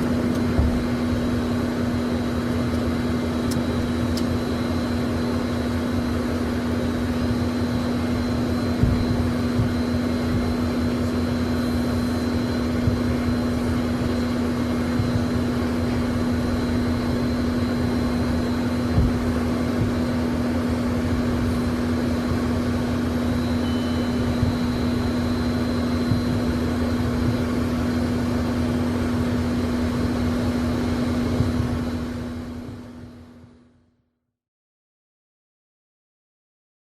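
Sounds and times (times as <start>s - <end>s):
jet engines humming: 0.0s - 33.7s.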